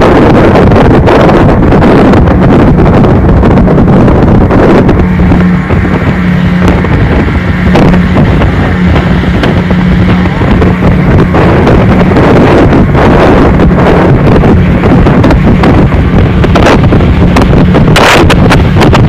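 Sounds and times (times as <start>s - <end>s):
boat engine droning: 0.0s - 19.0s
wind buffeting microphone: 0.0s - 19.0s.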